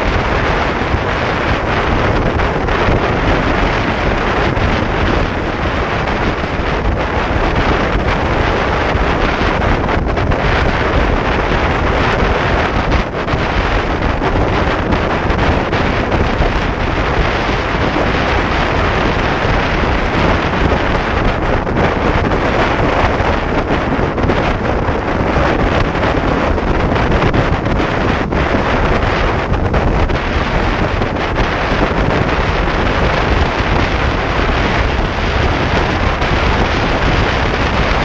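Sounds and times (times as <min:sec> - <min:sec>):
road noise: 0:00.0 - 0:38.0
wind rushing over microphone: 0:00.0 - 0:38.0.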